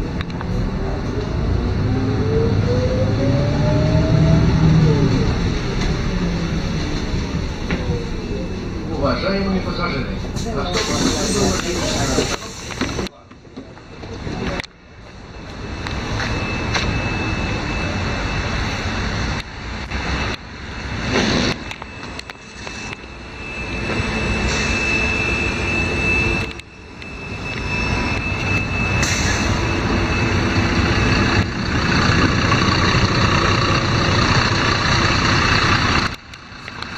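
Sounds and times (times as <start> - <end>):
bus engine and road noise: 0.0 - 36.9.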